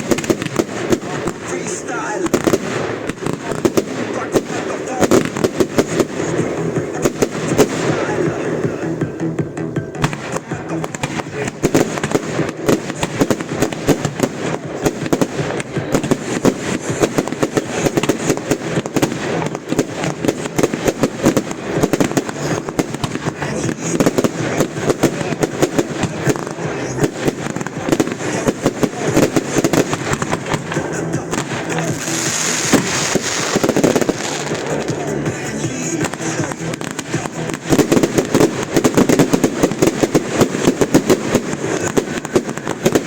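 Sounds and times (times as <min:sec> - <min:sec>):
fireworks banging: 0:00.0 - 0:43.0.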